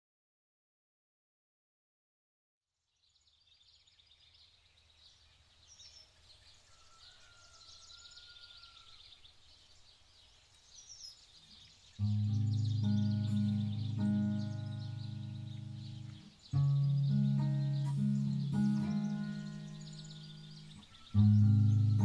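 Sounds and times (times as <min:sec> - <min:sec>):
small birds chirping: 0:02.9 - 0:22.0.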